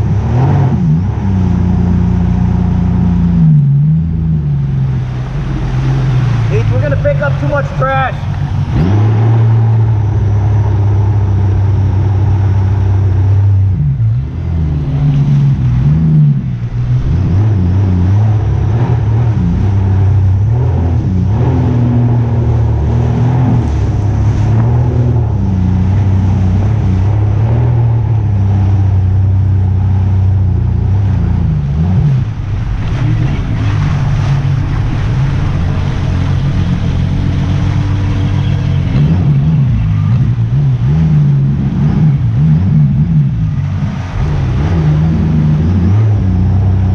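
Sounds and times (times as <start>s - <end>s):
vehicle engine revving: 0.0s - 46.9s.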